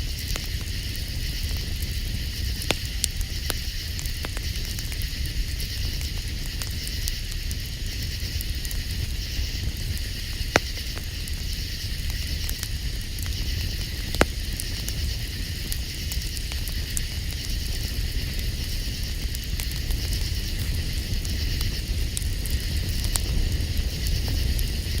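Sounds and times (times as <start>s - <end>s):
campfire crackling: 0.0s - 25.0s
sharp fire pops: 0.0s - 25.0s.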